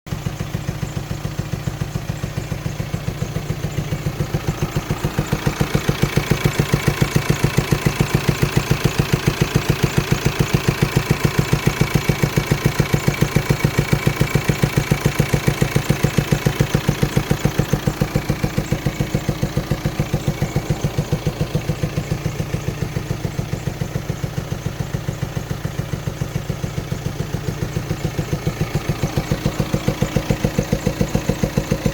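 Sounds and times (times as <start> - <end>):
engine idling with rapid pulsing: 0.1 - 31.9.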